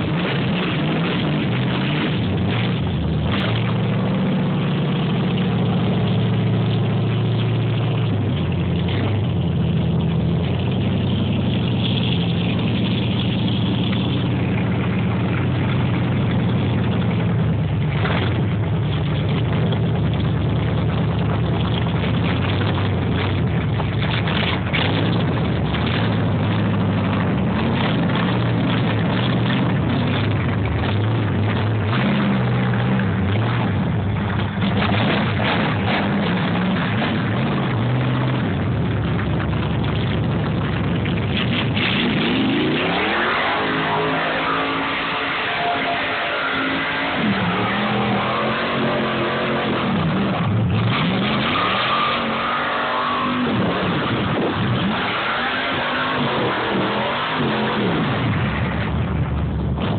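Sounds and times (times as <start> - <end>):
car engine running at low speed: 0.0 - 59.9.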